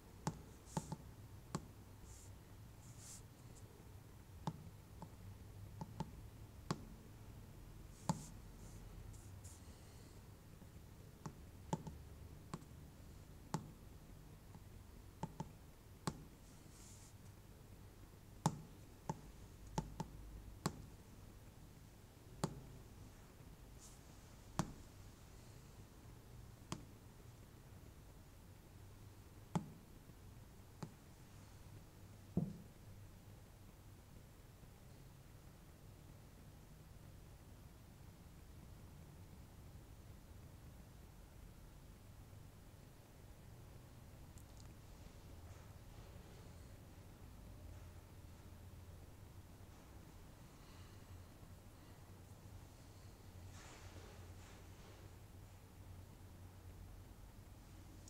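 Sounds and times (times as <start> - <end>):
faint low hum: 0.0 - 58.0.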